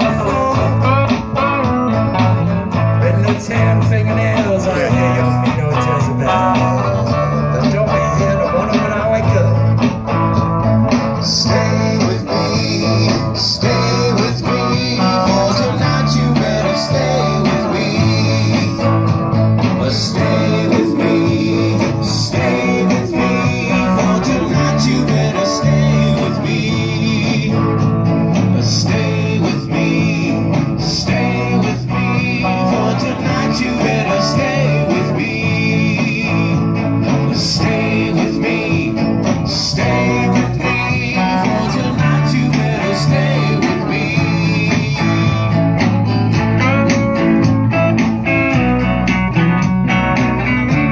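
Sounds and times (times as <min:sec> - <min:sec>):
blues-rock band playing: 0:00.0 - 0:50.9.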